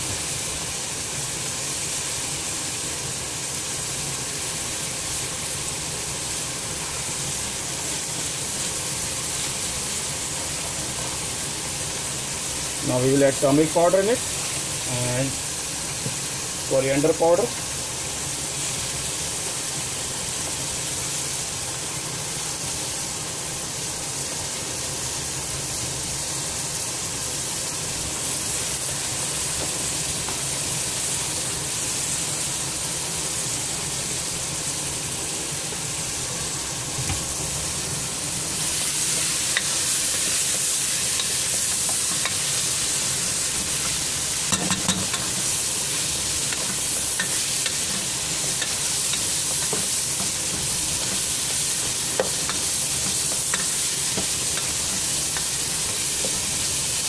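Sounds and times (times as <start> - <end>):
vegetables sizzling in pot: 0.0 - 57.0.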